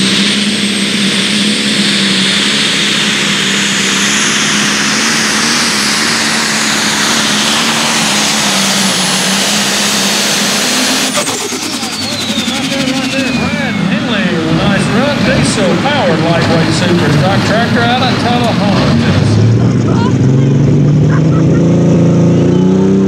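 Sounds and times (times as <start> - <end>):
tractor engine at full throttle: 0.0 - 23.0
turbo whine: 0.0 - 23.0.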